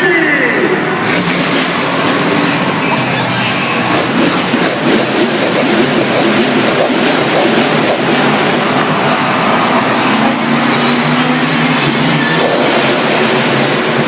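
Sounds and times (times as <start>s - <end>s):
monster truck engine running: 0.0s - 14.0s.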